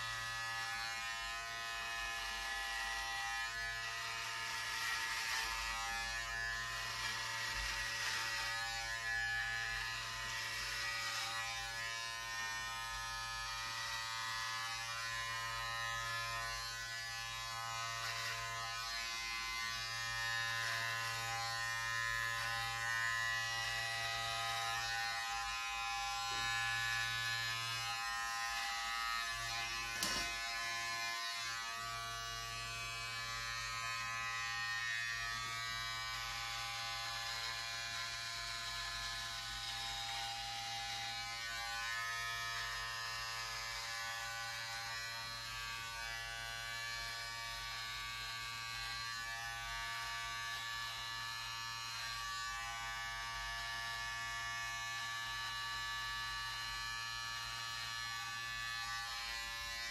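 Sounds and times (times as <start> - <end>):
electric hair clippers running: 0.0 - 59.9.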